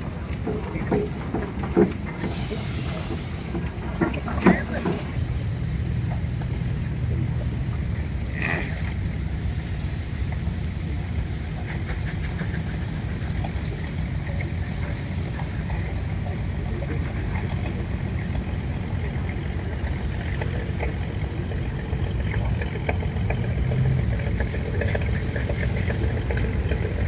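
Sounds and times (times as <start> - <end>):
steam engine rumble: 0.0 - 27.0.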